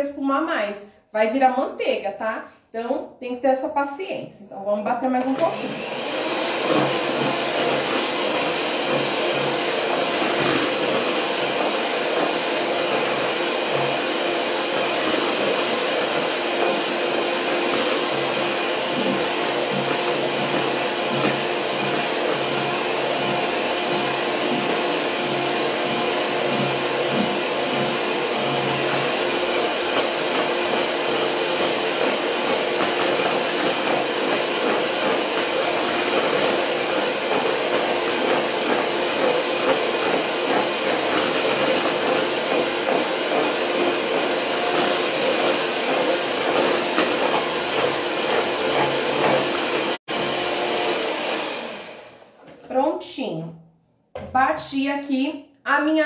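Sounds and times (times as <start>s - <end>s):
electric mixer whipping cream: 5.0s - 52.4s.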